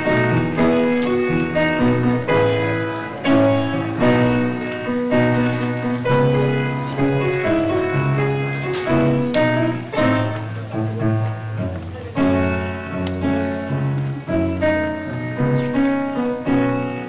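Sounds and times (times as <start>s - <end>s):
upright piano playing: 0.0s - 17.0s.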